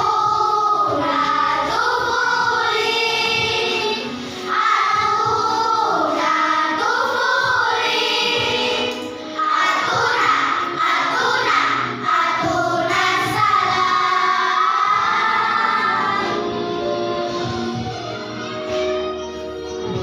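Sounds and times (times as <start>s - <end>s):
choir singing held notes: 0.0s - 17.3s.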